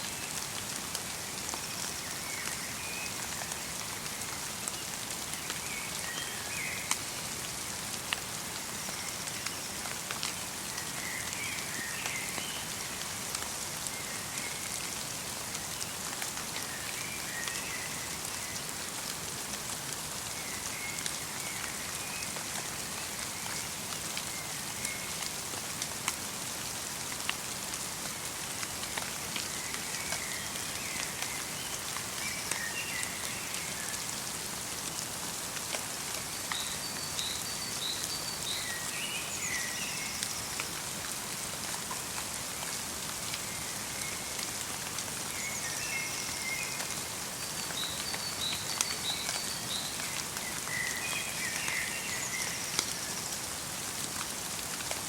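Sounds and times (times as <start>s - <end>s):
light rain patter: 0.0s - 55.0s.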